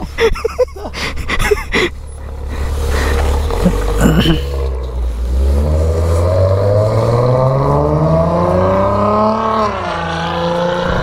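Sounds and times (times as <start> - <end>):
vehicle engine accelerating: 1.0 - 11.0.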